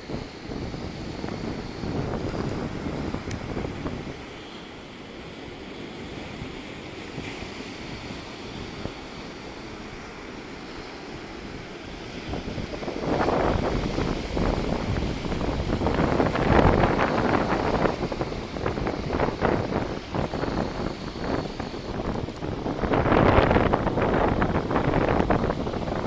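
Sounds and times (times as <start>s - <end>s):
sea surf washing in: 0.0s - 26.0s
wind buffeting microphone: 0.0s - 26.0s.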